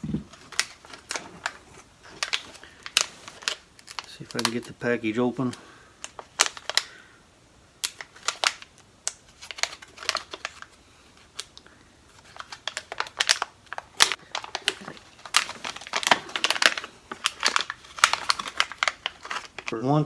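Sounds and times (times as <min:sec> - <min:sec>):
packaging crinkling: 0:00.0 - 0:07.1, 0:07.8 - 0:19.8.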